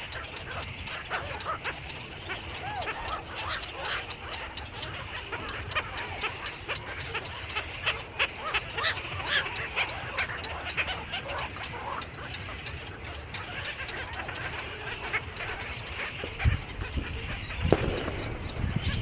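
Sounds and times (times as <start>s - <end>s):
flock of birds chirping: 0.0s - 19.0s.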